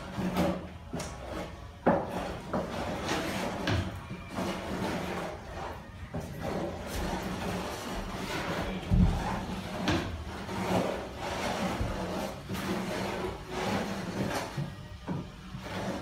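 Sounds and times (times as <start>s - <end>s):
spreader scraping adhesive on floor: 0.0s - 16.0s.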